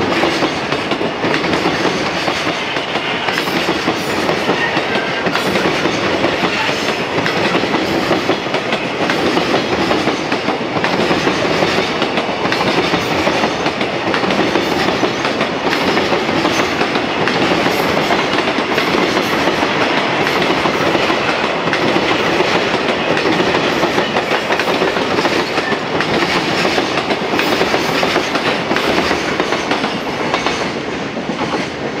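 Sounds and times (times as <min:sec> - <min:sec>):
wheels clacking over rail joints: 0:00.0 - 0:31.9
train wheels rumbling: 0:00.0 - 0:32.0.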